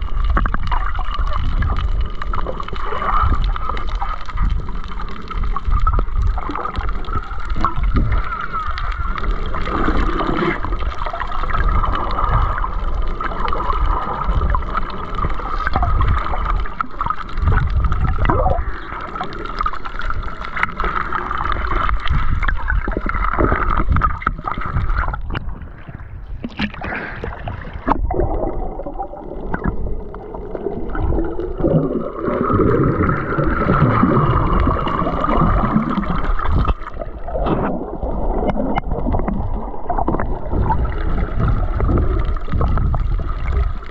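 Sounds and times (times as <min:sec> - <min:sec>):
muffled underwater rushing: 0:00.0 - 0:43.9.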